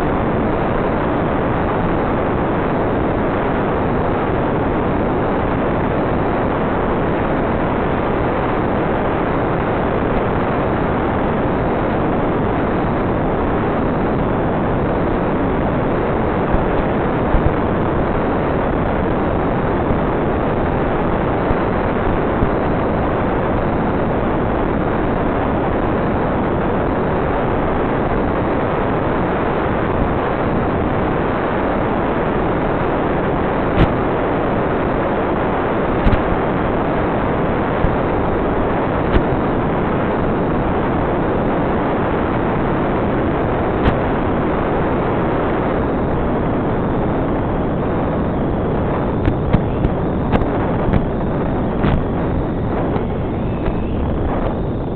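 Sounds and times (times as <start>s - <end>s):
static hiss: 0.0s - 54.9s.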